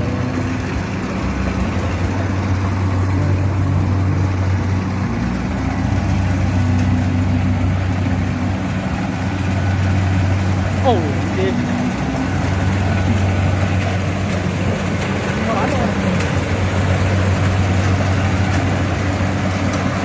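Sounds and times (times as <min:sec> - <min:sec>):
combine harvester engine droning: 0:00.0 - 0:20.0.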